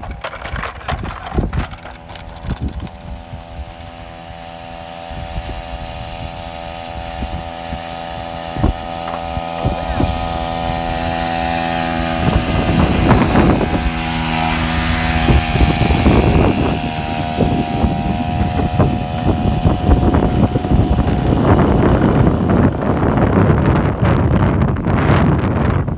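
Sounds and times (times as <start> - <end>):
small motorized bike engine: 0.0 - 25.9
wind noise on microphone: 0.0 - 25.9.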